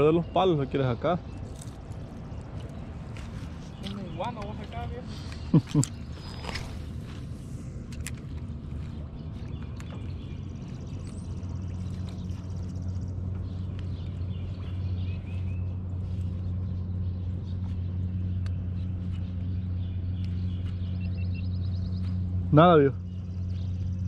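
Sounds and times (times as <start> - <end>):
birds chirping: 0.0 - 24.0
boat motor humming: 0.0 - 24.0.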